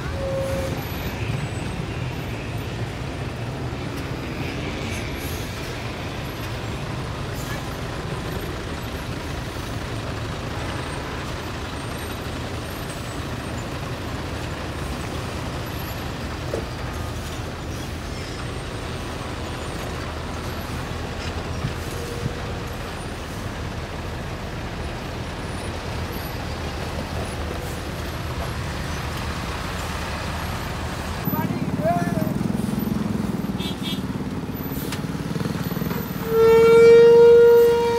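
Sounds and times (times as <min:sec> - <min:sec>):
diesel bus engines droning: 0:00.0 - 0:37.9.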